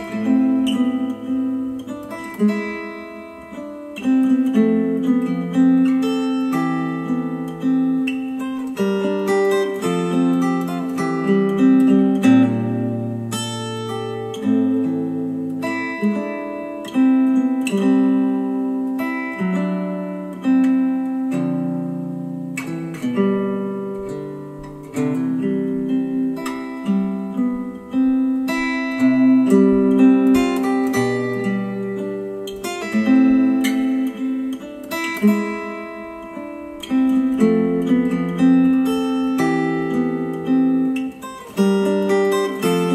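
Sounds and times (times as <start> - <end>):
acoustic guitar music: 0.0 - 42.9.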